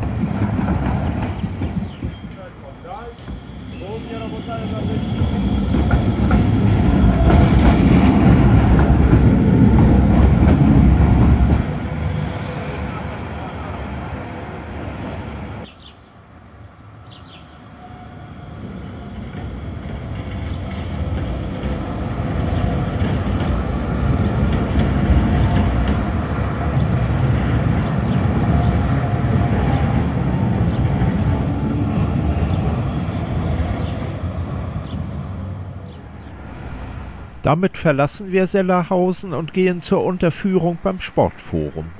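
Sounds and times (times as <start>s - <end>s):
trams rumbling on rails: 0.0s - 41.9s.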